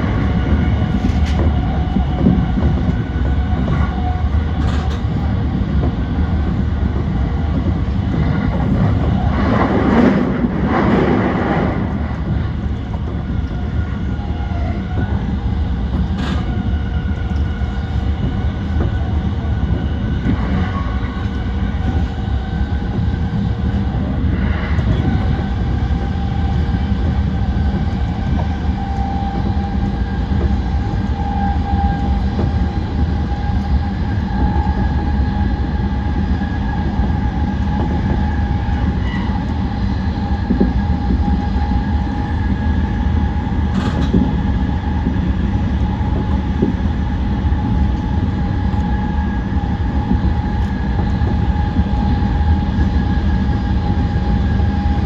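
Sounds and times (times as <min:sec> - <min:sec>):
train wheels rumbling on rail: 0:00.0 - 0:55.0
train whine: 0:00.0 - 0:55.0.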